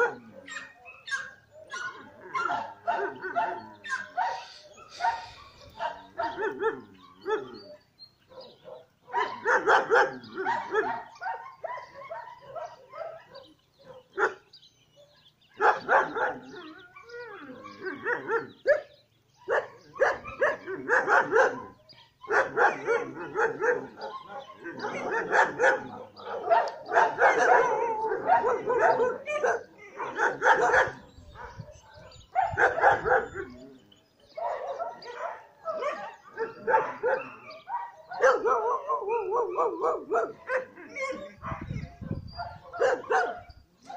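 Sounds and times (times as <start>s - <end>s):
dogs barking: 0.0s - 43.9s.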